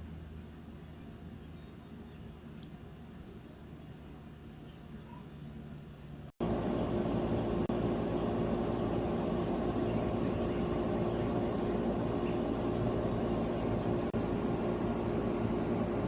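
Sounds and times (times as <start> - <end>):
mechanical hum with tones: 0.0 - 16.0.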